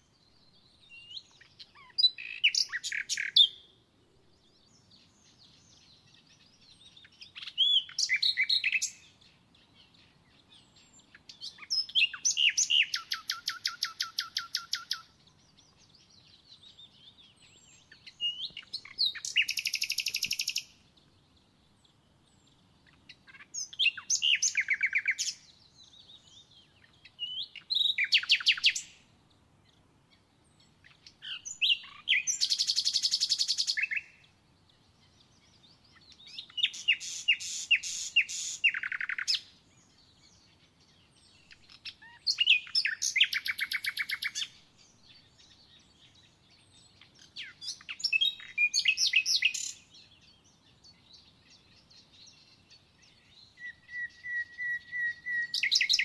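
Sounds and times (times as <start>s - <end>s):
songbird trilling: 0.9s - 3.7s, 4.8s - 20.8s, 22.4s - 29.0s, 30.7s - 34.2s, 35.2s - 50.5s, 51.1s - 56.0s.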